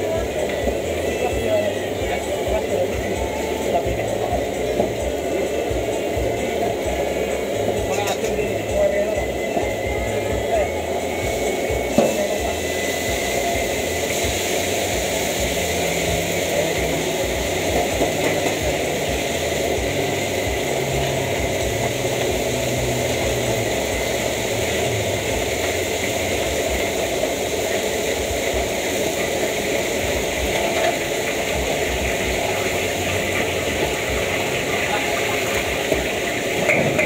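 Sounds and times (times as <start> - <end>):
gas burner flame rushing: 0.0 - 37.0
oil bubbling and sizzling: 0.0 - 37.0.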